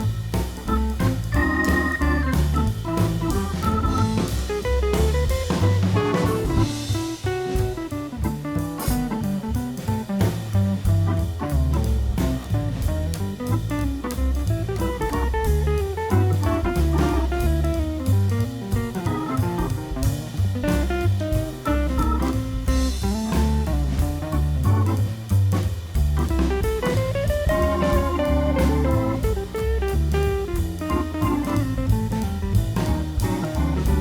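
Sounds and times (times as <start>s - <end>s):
bass line: 0.0s - 34.0s
instrumental background music: 0.0s - 34.0s
steady drum beat: 0.0s - 34.0s.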